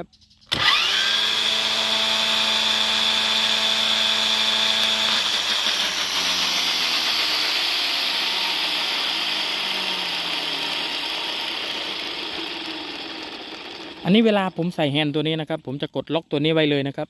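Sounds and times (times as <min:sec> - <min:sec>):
electric brush cutter motor whining: 0:00.5 - 0:14.8.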